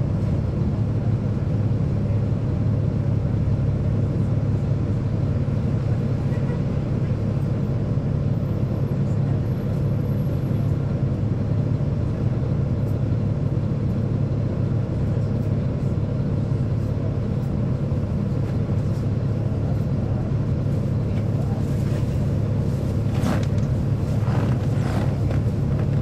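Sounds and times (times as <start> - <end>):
bus diesel engine drone: 0.0 - 26.0.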